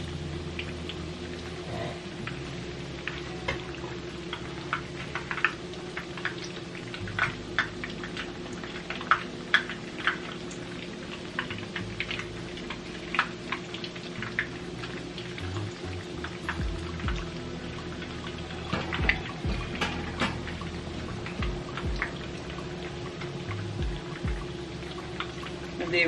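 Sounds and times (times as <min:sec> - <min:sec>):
patties frying in hot oil: 0:00.0 - 0:26.0
steady low hum: 0:00.0 - 0:26.0.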